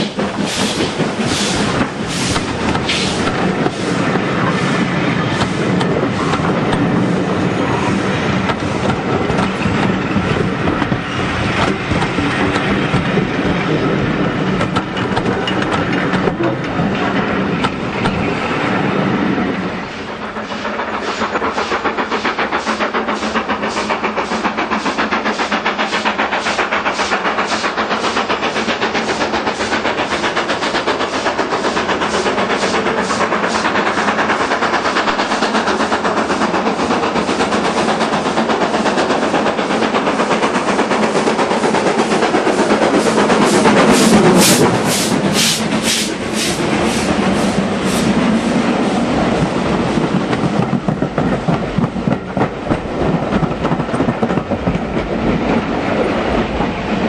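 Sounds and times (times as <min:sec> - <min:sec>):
railway coaches rumbling past: 0:00.0 - 0:21.3, 0:28.4 - 0:57.0
steam locomotive exhaust beats: 0:00.0 - 0:57.0.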